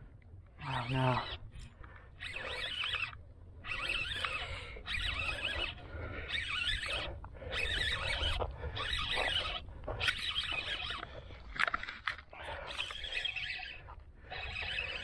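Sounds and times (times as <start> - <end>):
fishing reel being cranked: 0.6 - 15.0.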